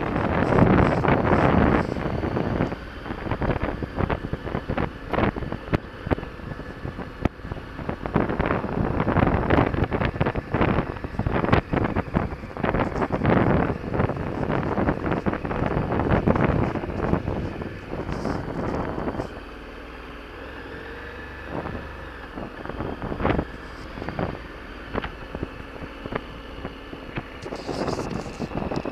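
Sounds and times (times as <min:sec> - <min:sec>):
wind buffeting microphone: 0:00.0 - 0:19.5, 0:21.4 - 0:28.9
motorcycle engine running: 0:00.0 - 0:28.9.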